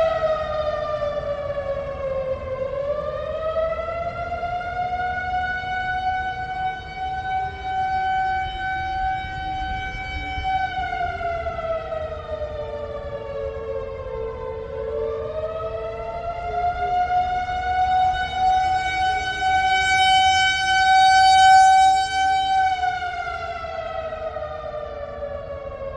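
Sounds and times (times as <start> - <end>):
warning siren: 0.0 - 25.9.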